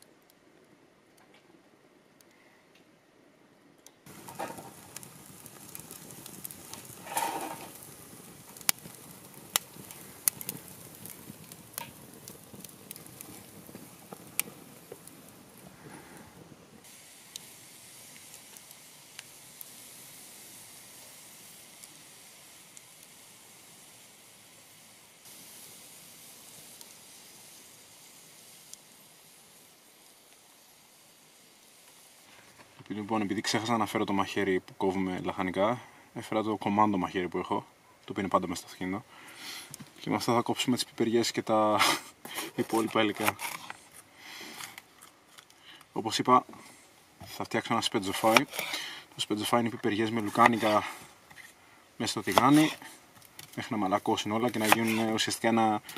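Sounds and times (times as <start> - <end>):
wood fire crackling and hissing: 0.0 - 55.9
burning wood popping: 4.0 - 55.9.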